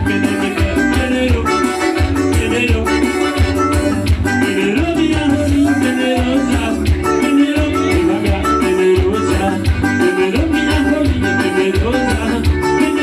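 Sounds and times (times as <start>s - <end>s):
instrumental folk dance music: 0.0s - 13.0s.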